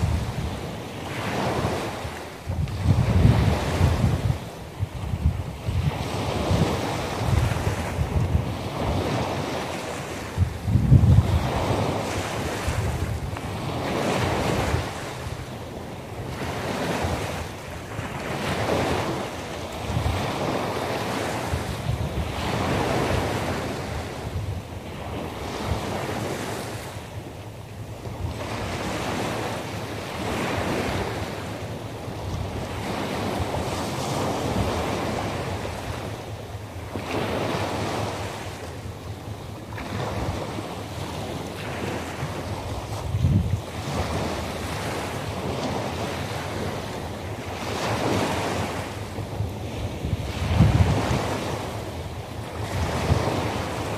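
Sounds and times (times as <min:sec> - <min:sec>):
sea waves breaking on shore: 0:00.0 - 0:53.9
wind rumble on microphone: 0:00.0 - 0:53.9.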